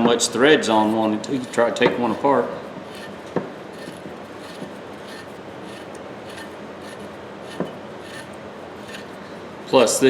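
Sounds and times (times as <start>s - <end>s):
gritty rubbing of wrench nut: 0.4s - 10.0s.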